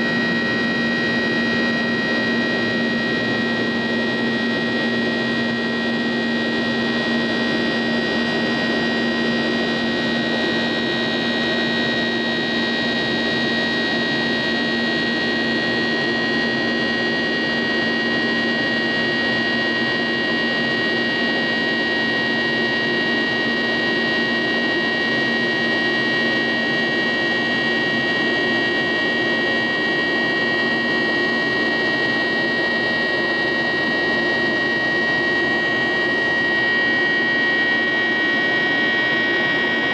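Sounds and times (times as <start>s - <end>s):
jet engine roar: 0.0s - 21.0s, 27.2s - 39.9s
high engine whine: 0.0s - 39.9s.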